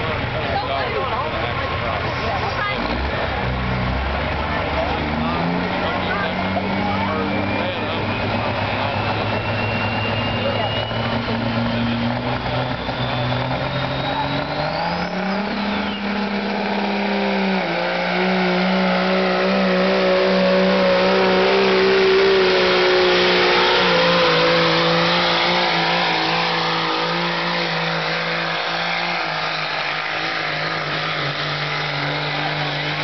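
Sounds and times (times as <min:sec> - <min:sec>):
diesel truck engine at high revs: 0:00.0 - 0:33.0.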